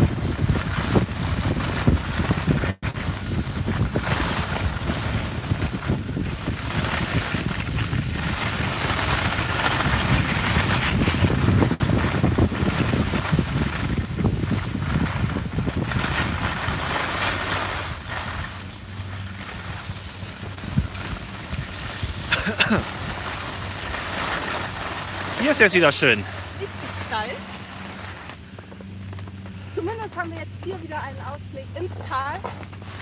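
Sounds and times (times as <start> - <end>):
wind rushing over microphone: 0.0 - 28.7
skis scraping over snow: 0.0 - 33.0.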